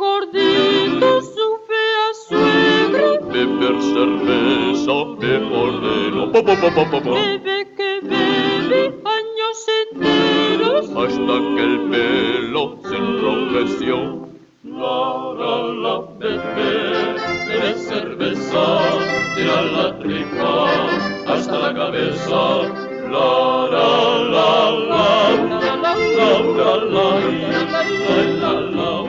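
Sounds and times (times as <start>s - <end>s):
male vocal group singing: 0.4s - 1.3s, 2.3s - 7.4s, 8.0s - 8.9s, 10.0s - 29.0s
accordion: 0.4s - 1.4s, 2.3s - 9.1s, 10.0s - 14.4s, 15.6s - 29.0s.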